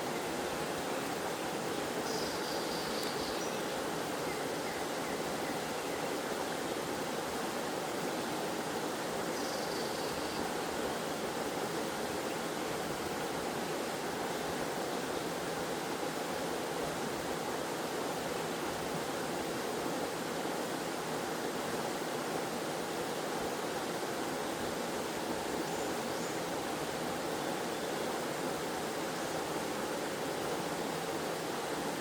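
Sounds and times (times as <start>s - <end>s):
waterfall and stream rushing: 0.0s - 32.0s.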